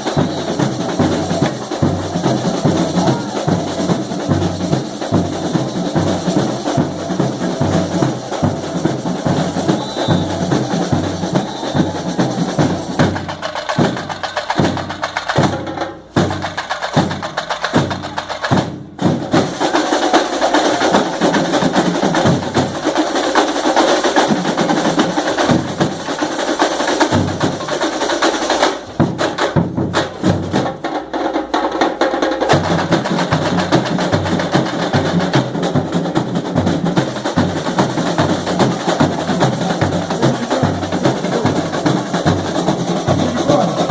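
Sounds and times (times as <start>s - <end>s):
accented drum strokes: 0.0s - 43.9s
samba drum and percussion section: 0.0s - 43.9s.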